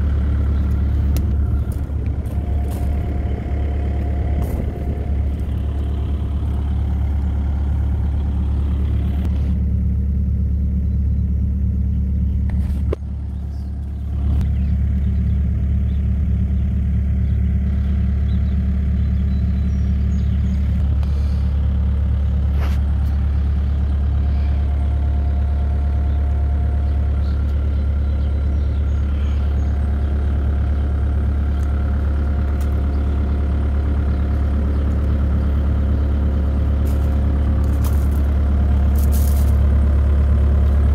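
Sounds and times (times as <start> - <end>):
diesel excavator engine idling: 0.0 - 40.9.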